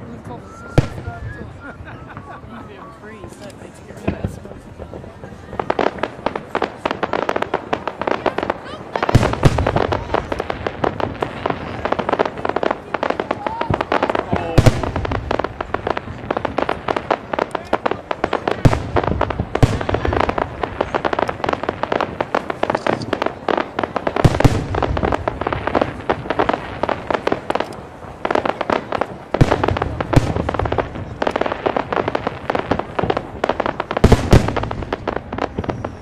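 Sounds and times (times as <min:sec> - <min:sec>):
fireworks crackling and popping: 0:00.0 - 0:36.0
heavy firework bangs: 0:04.0 - 0:36.0.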